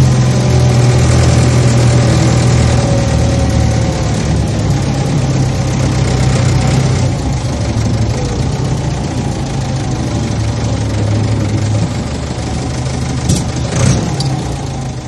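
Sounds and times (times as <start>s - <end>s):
heavy engine running: 0.0s - 15.0s.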